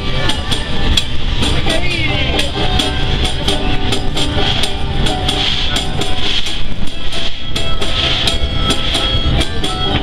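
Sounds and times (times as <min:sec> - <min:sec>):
upbeat music: 0:00.0 - 0:10.0.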